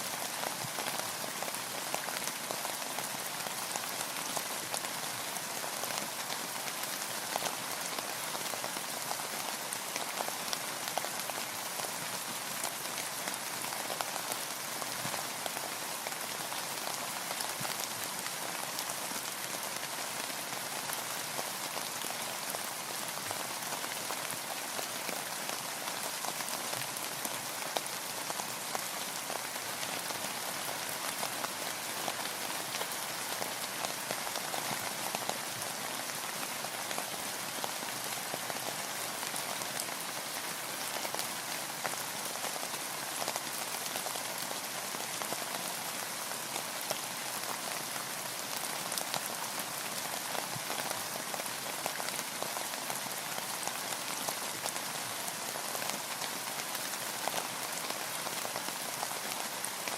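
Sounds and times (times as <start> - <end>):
rain falling on a boat: 0.0 - 59.9.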